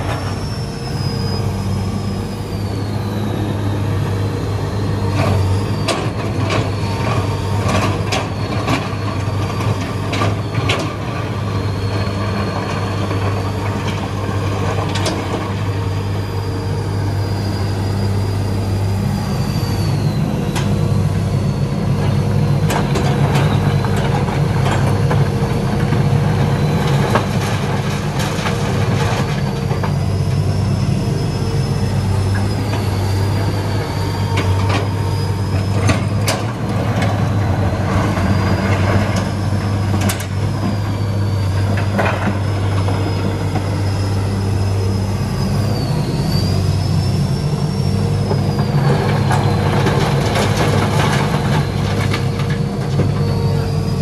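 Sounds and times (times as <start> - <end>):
excavator diesel engine running: 0.0 - 54.0
high hydraulic whine: 0.0 - 54.0.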